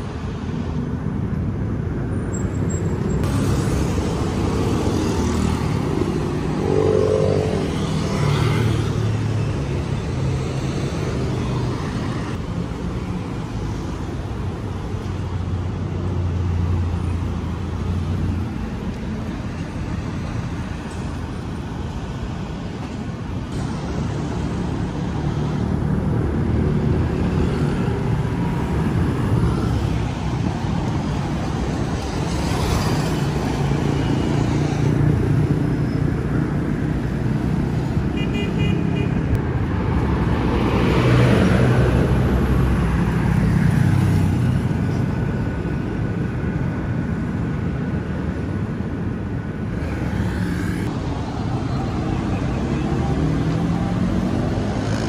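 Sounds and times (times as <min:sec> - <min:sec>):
car engines rumbling: 0:00.0 - 0:55.0
cars passing by: 0:00.0 - 0:55.0.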